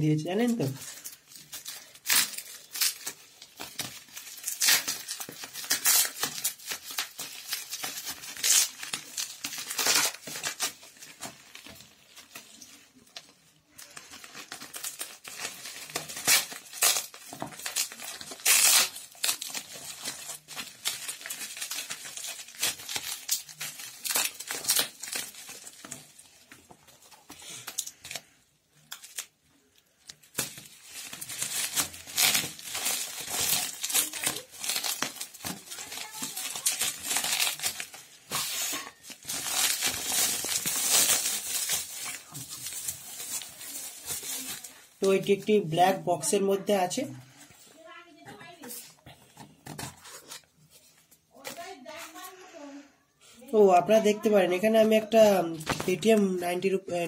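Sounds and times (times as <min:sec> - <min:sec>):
bubble wrap crinkling: 0:00.0 - 0:52.6.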